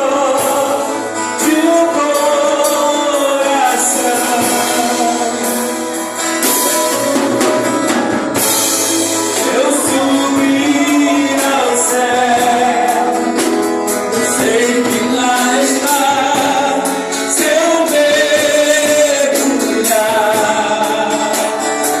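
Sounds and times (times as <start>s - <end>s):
band accompaniment: 0.0s - 22.0s
group singing worship song: 0.0s - 22.0s.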